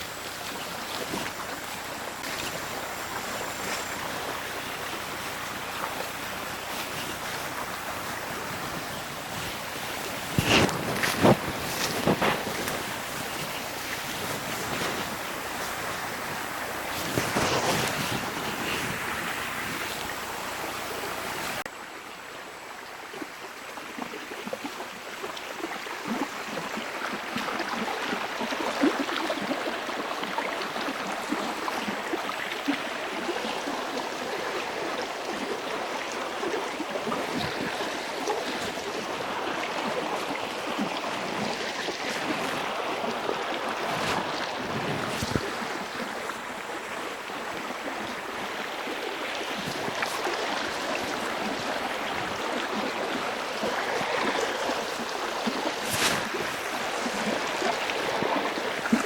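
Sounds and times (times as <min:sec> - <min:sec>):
small water splashes: 0:00.0 - 0:21.7, 0:23.1 - 0:59.0
stream water rushing: 0:00.0 - 0:59.0.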